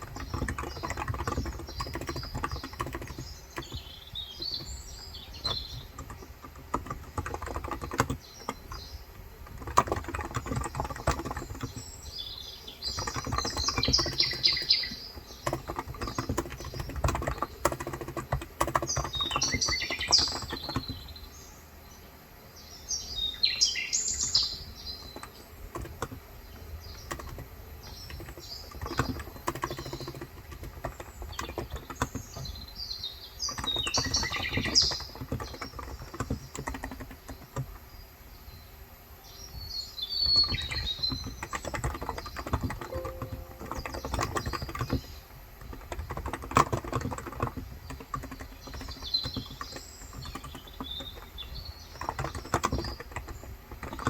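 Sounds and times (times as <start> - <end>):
keyboard typing: 0.0 - 21.2, 24.7 - 37.9, 40.2 - 54.0
birds chirping: 0.0 - 54.0.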